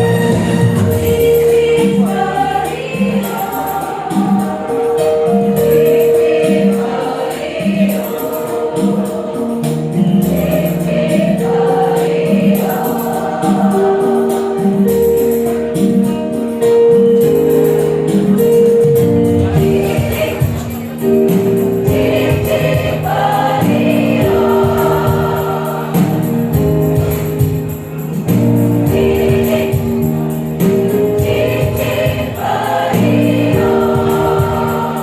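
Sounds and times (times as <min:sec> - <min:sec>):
women's choir singing: 0:00.0 - 0:15.8, 0:18.1 - 0:35.0
instrumental accompaniment with beat: 0:00.0 - 0:35.0.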